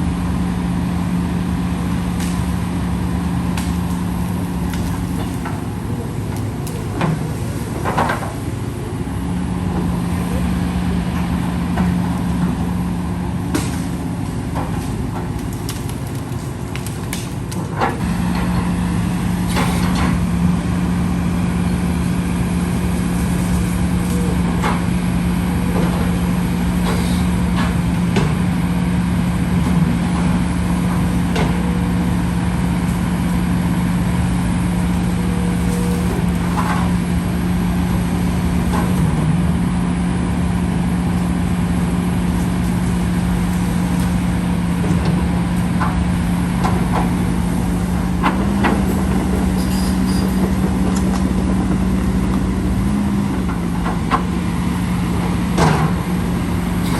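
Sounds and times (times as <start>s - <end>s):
diesel engine running steadily: 0.0s - 56.9s.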